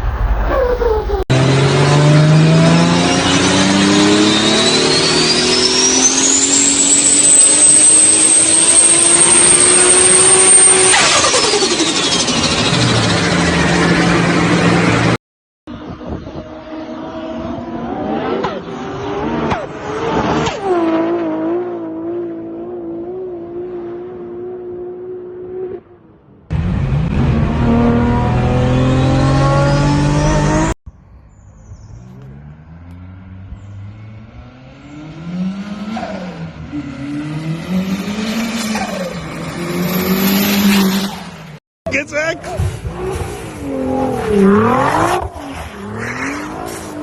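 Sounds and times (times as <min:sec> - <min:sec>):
car engines revving: 0:00.0 - 0:30.8, 0:31.8 - 0:47.0.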